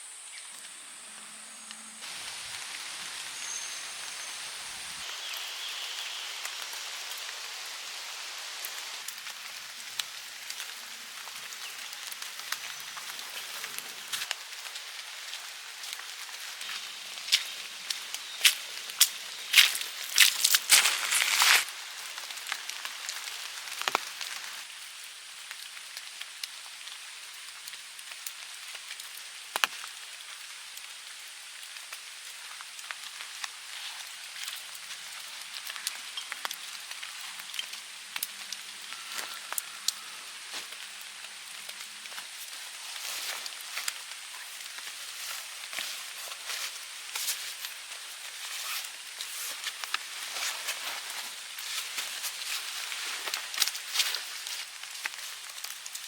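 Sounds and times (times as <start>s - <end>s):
rain dripping in forest: 0.0s - 56.0s.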